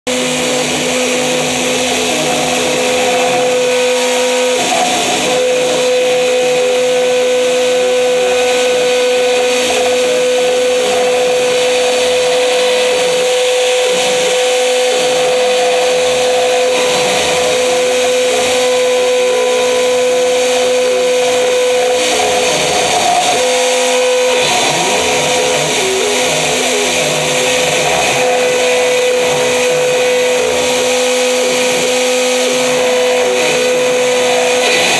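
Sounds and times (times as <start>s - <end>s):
buzzy cutting noise: 0.0s - 34.9s
cnc router spindle whine: 0.0s - 34.9s.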